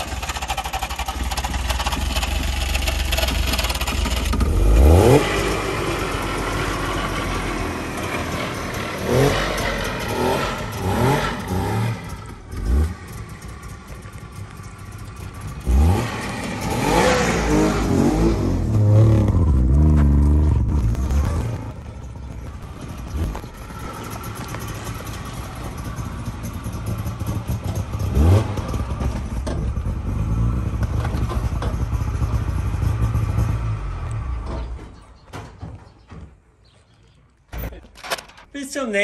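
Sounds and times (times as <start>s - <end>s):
two-stroke engine revving: 0.0s - 34.4s.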